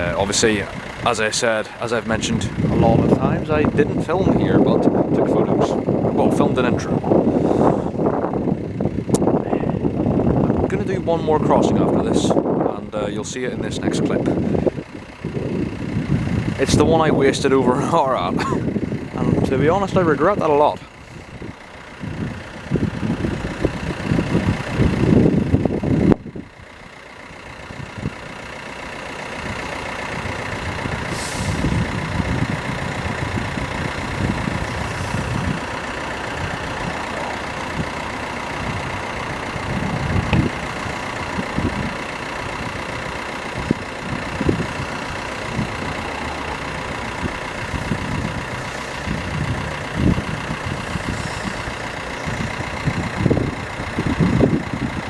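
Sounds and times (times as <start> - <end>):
car and truck engines passing: 0.0 - 55.0.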